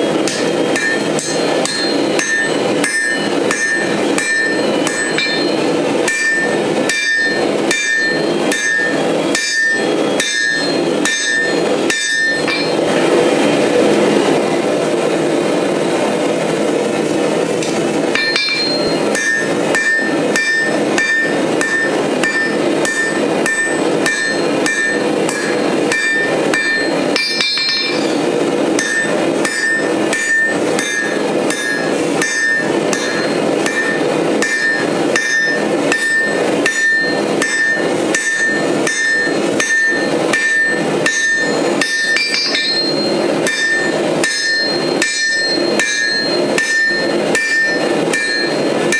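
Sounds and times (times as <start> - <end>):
hammer on anvil ringing: 0.0 - 12.9, 17.6 - 48.9.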